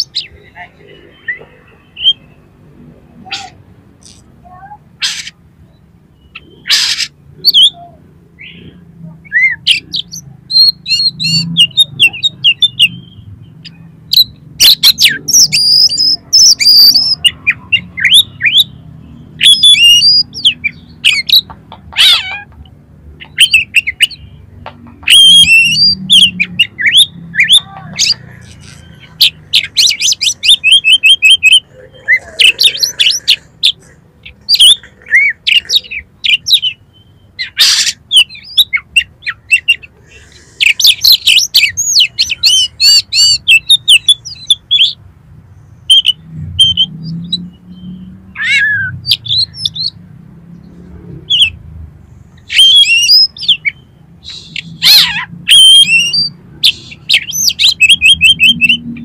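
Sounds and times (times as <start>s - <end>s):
bird singing: 0.0s - 51.6s, 52.2s - 59.0s.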